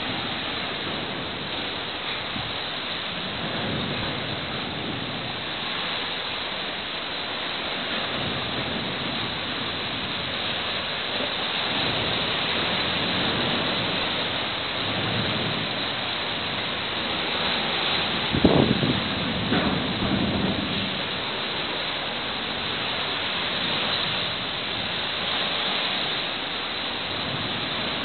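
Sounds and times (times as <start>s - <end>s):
sea washing along hull: 0.0s - 28.0s
wind: 0.0s - 28.0s.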